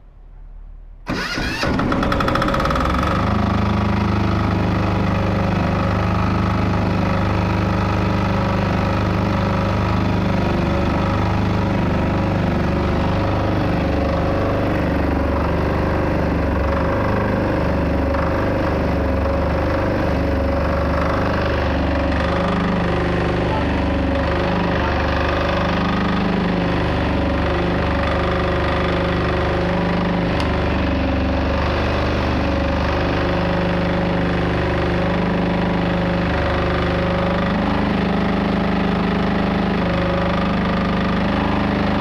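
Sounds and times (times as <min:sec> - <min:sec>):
diesel generator starting and running: 0:00.0 - 0:42.0.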